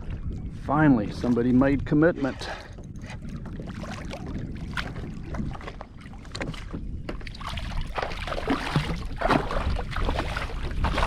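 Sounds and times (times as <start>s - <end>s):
water splashing around kayak: 0.0s - 11.0s
wind rumble on microphone: 0.0s - 11.0s.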